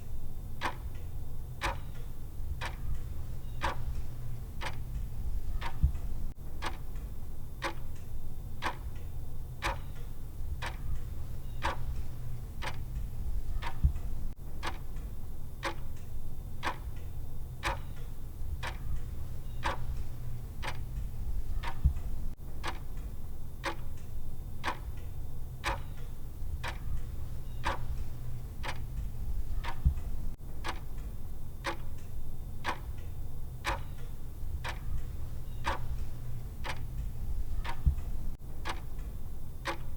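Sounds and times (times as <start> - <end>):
low steady hum: 0.0 - 39.9
clock-style ticking: 0.6 - 39.9.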